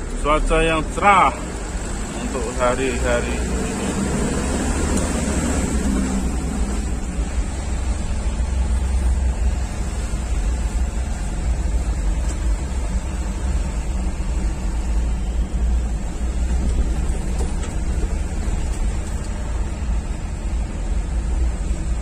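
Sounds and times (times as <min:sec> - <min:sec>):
truck engine and tyres rumbling: 0:00.0 - 0:22.0.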